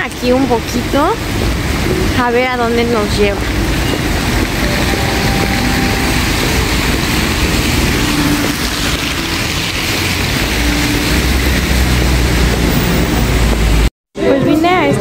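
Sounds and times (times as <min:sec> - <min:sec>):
falling rain: 0:00.0 - 0:13.9
passing traffic: 0:00.0 - 0:15.0.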